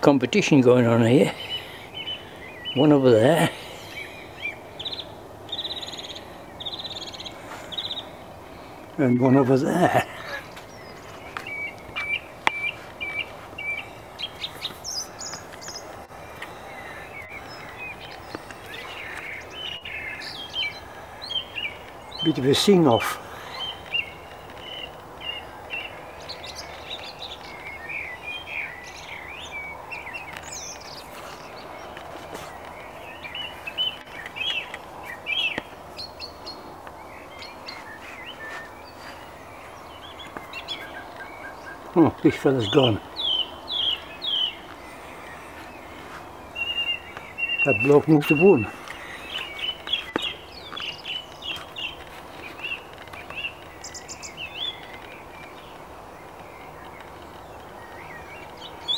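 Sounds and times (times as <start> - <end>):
songbirds singing: 0.0 - 58.9
steady background hiss: 0.0 - 58.9.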